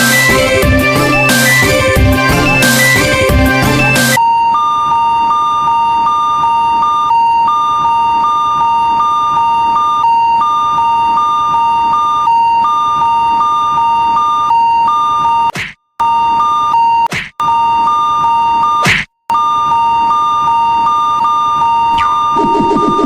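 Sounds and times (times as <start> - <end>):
railroad crossing alarm tones: 0.0 - 23.0.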